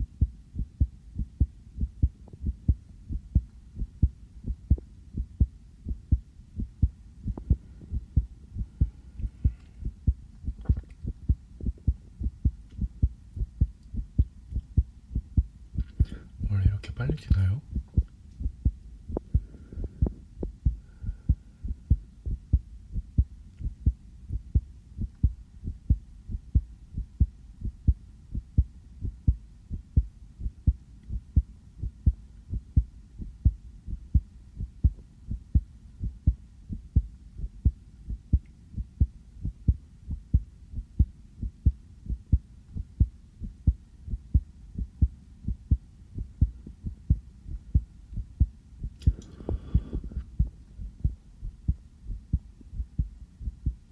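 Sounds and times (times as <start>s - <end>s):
fast heartbeat thumps: 0.0s - 16.5s, 17.6s - 53.9s.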